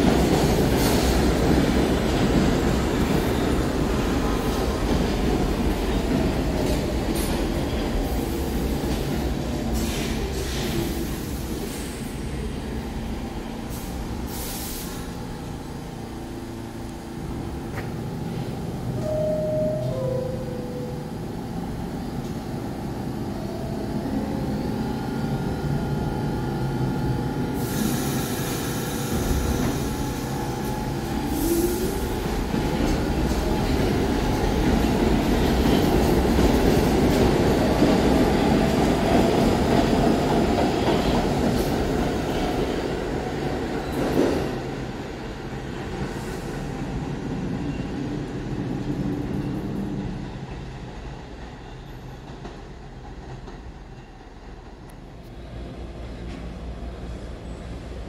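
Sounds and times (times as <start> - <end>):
subway train rumbling: 0.0 - 58.0.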